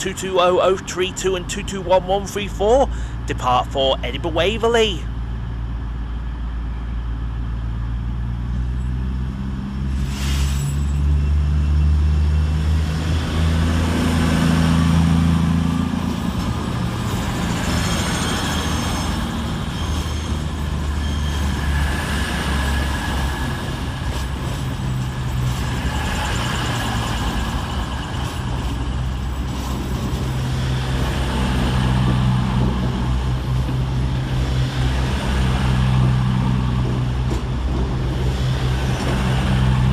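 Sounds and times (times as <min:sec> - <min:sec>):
diesel train engines droning: 0:00.0 - 0:39.9.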